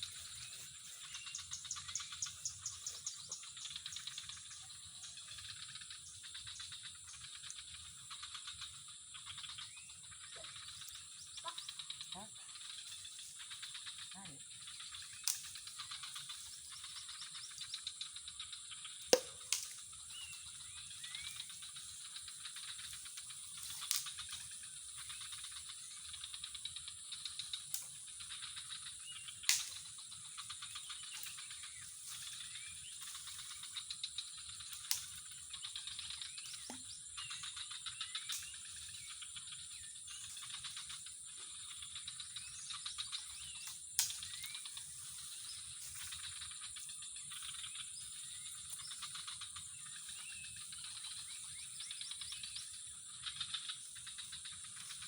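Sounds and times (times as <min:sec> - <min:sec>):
insect drone: 0:00.0 - 0:55.0
insects chirping: 0:00.0 - 0:55.0.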